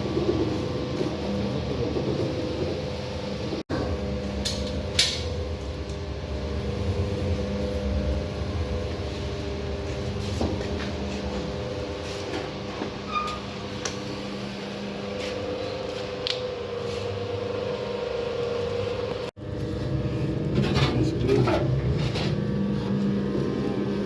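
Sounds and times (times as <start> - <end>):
machine motor humming: 0.0 - 24.0.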